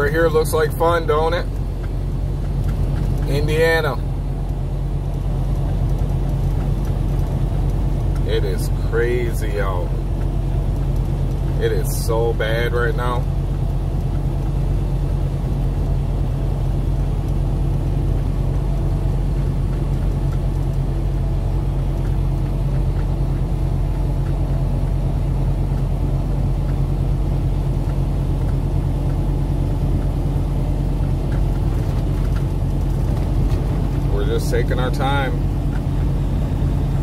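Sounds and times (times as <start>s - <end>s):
road noise inside cab: 0.0s - 37.0s
truck diesel engine droning: 0.0s - 37.0s.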